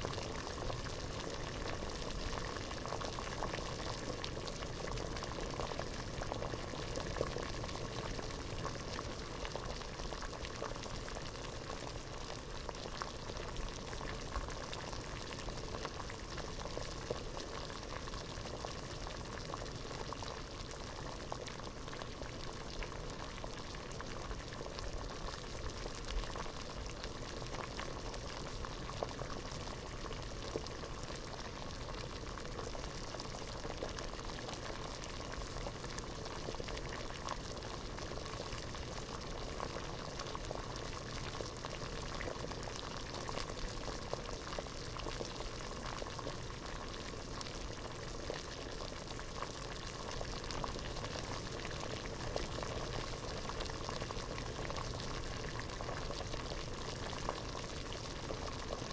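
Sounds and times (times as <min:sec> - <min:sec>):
water boiling in a pot: 0:00.0 - 0:58.9.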